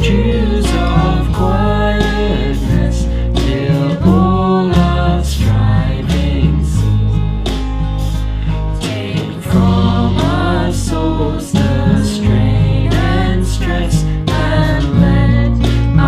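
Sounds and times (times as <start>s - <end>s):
person singing: 0.0s - 7.5s, 8.8s - 16.0s
band accompaniment: 0.0s - 16.0s.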